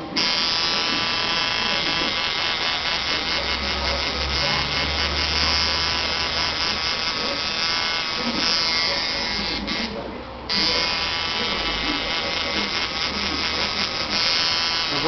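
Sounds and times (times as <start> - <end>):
tattoo machine buzzing: 0.0 - 15.0.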